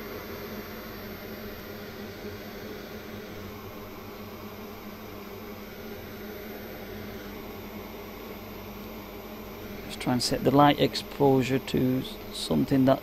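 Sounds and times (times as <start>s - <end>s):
fan whirring: 0.0s - 13.0s.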